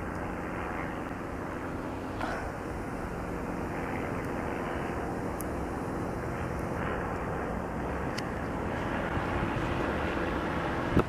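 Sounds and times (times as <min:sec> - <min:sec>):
distant engines rumbling: 0:00.0 - 0:11.0
faint engine hum: 0:00.0 - 0:11.0.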